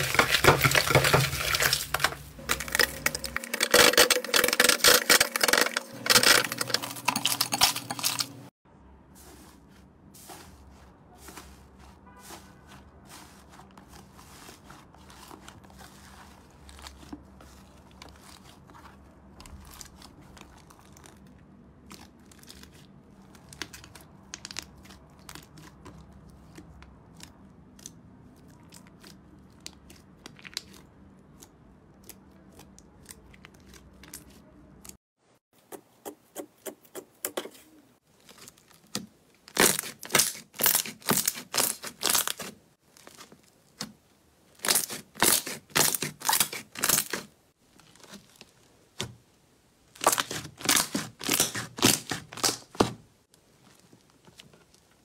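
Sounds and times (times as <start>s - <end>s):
hands squishing slime: 0.0s - 8.3s, 9.4s - 35.0s, 36.0s - 49.1s, 49.9s - 54.8s.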